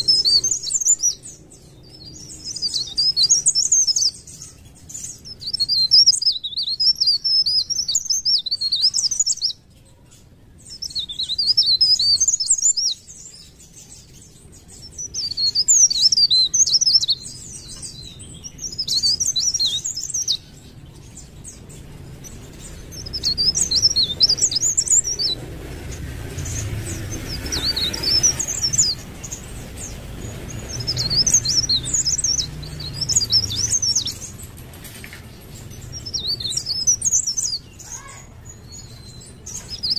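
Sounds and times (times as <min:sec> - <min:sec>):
leaf warbler twittering: 0:00.0 - 0:39.9.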